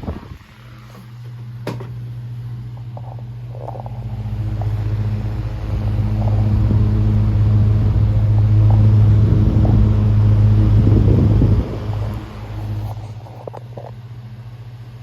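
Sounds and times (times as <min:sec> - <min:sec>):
electric fan motor humming: 0:00.0 - 0:15.0.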